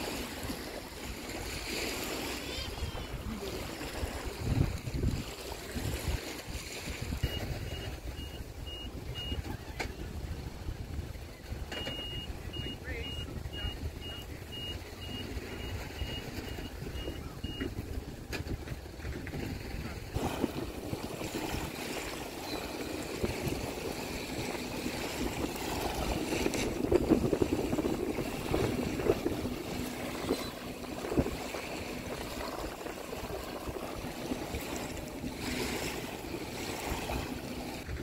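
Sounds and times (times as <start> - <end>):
small waves lapping at shoreline: 0.0 - 38.0.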